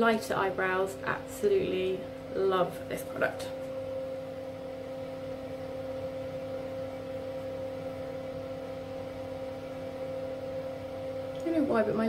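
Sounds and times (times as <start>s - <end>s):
steady two-pitch hum: 0.0s - 12.0s.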